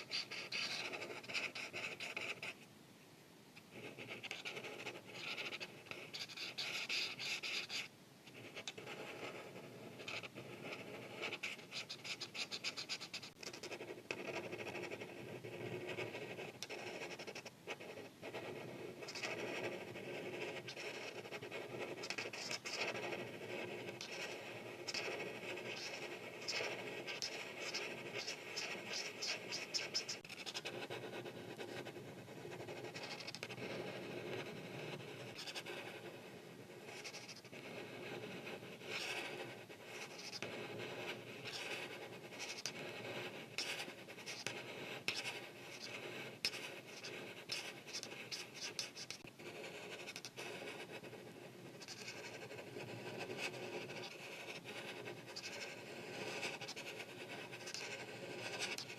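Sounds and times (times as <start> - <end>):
marker scratching on paper: 0.0 - 2.6, 3.7 - 58.9.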